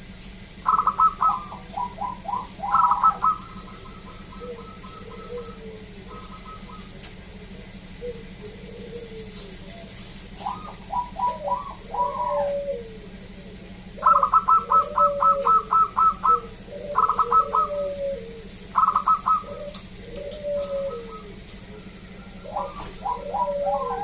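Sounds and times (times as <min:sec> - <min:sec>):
doves cooing: 0:00.0 - 0:24.0.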